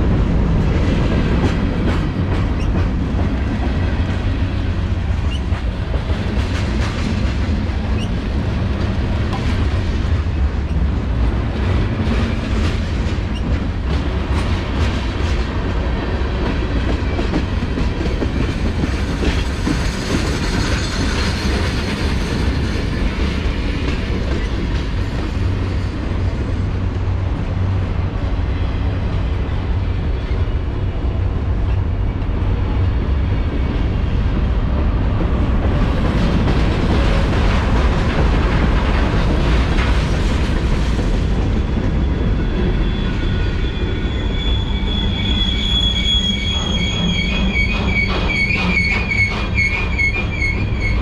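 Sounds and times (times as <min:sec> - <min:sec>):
freight train rumbling: 0:00.0 - 0:51.0.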